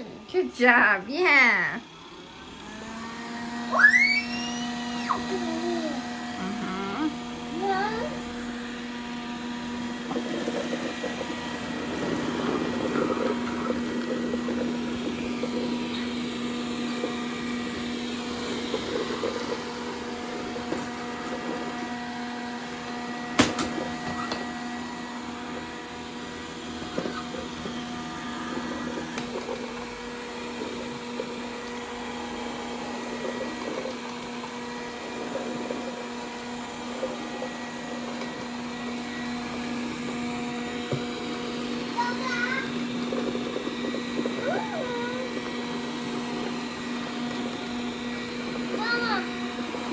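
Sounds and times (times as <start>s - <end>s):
robot vacuum motor hum: 0.0s - 49.9s.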